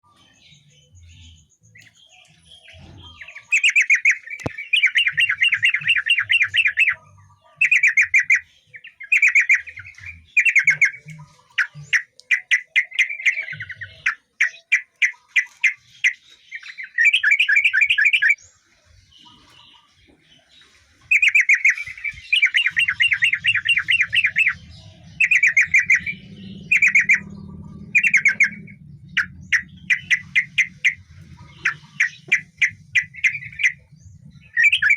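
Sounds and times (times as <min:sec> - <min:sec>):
bird chattering song: 0:00.0 - 0:34.9.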